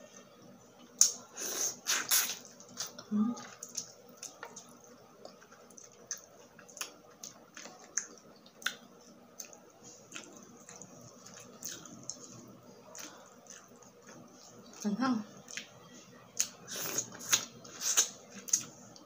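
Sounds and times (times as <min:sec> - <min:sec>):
person chewing food: 0:01.9 - 0:14.8, 0:15.4 - 0:19.0.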